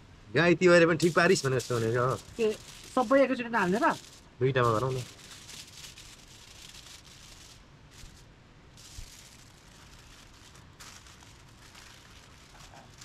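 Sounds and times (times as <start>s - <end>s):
aluminium foil crinkling: 1.0s - 13.0s.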